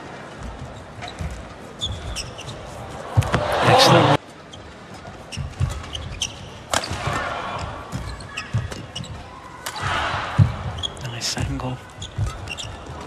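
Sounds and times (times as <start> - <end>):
crowd noise: 0.0 - 13.0.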